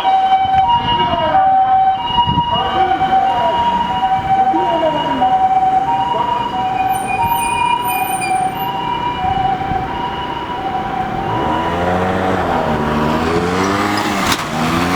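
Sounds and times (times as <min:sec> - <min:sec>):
low sweeping siren tone: 0:00.0 - 0:14.9
two-tone ambulance siren: 0:00.0 - 0:14.9.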